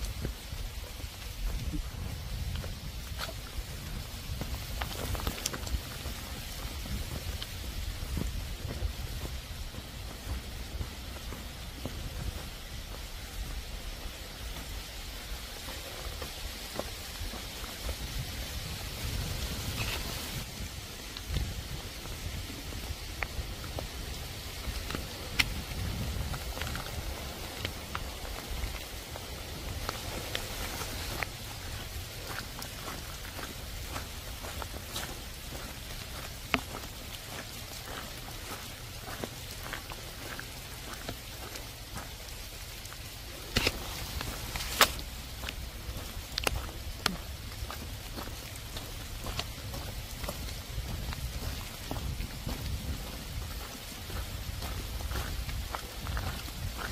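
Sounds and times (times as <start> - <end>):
individual raindrops ticking: 0.0 - 19.2, 19.8 - 56.9
heavy rain on concrete and grass: 0.0 - 56.9.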